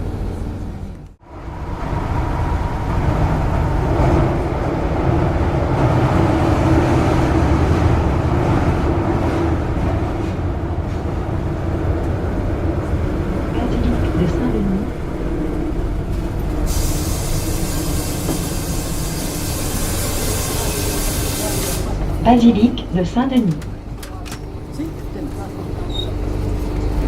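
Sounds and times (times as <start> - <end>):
train rumbling inside carriage: 0.0 - 27.0.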